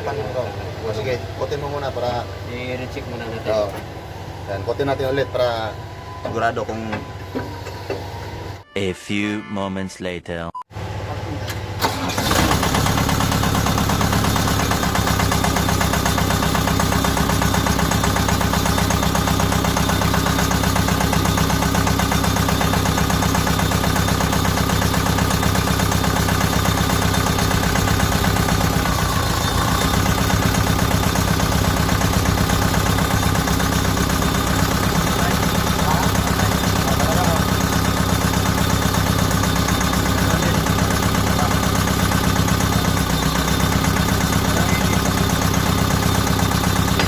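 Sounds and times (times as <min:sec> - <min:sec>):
diesel engine running with misfire: 0:00.0 - 0:08.6, 0:10.7 - 0:47.0.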